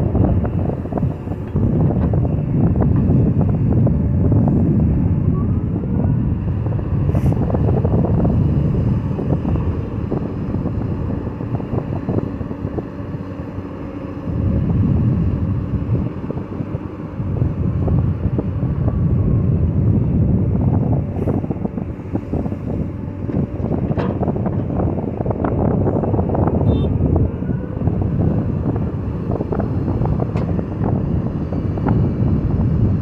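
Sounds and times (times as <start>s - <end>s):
diesel engine rumbling: 0.0s - 33.0s.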